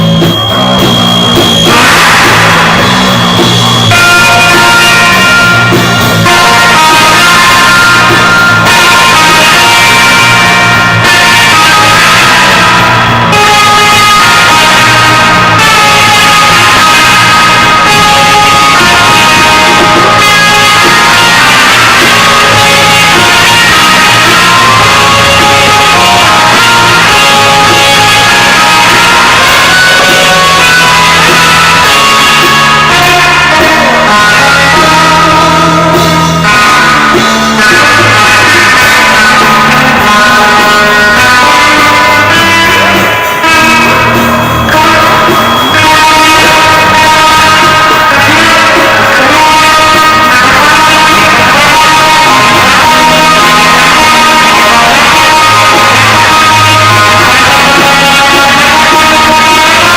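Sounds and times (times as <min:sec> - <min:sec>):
rock band guitars and drums: 0:00.0 - 0:59.9.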